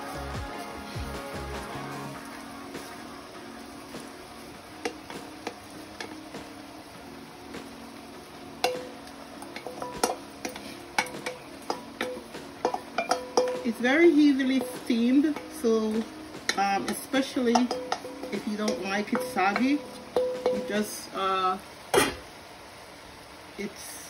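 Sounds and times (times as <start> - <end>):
faint sizzle: 0.0 - 24.0.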